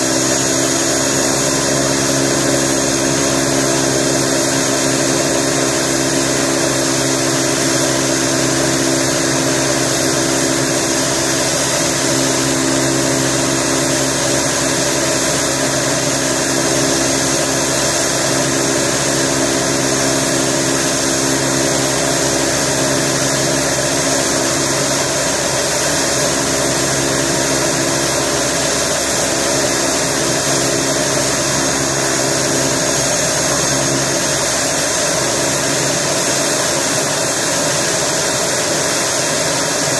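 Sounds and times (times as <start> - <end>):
turboprop engine idling: 0.0 - 39.9.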